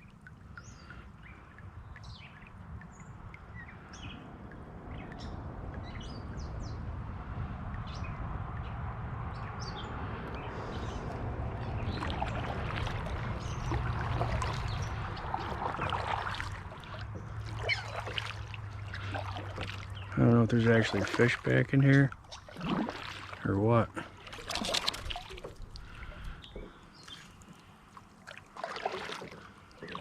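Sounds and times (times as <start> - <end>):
birds chirping: 0.0 - 6.9, 7.7 - 27.9, 29.3 - 30.0.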